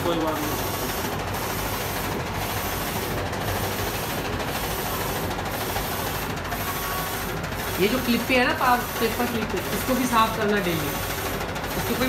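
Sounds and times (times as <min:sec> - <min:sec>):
printer carriage running: 0:00.0 - 0:12.0.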